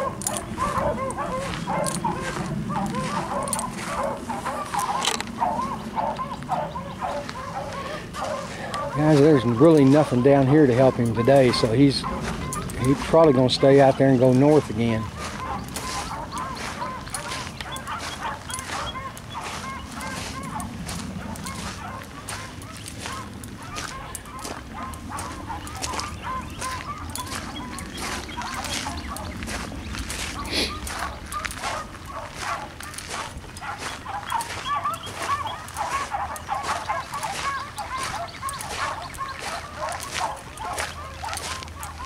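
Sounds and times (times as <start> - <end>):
distant hounds baying: 0.0 - 42.0.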